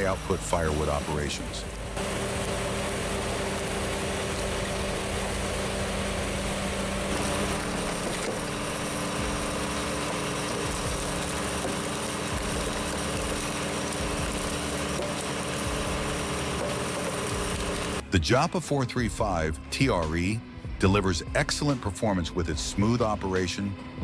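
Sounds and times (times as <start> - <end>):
machine engine and hydraulics running: 0.0 - 18.0, 19.9 - 24.0.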